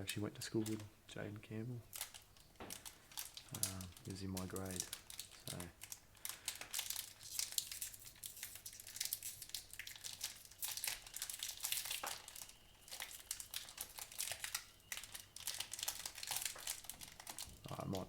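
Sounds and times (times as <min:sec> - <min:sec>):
foil wrappers crumpling: 0:01.9 - 0:18.0.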